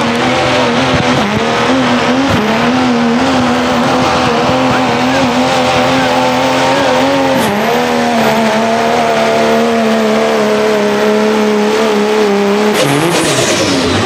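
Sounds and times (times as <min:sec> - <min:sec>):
diesel engine running flat out: 0:00.0 - 0:14.0.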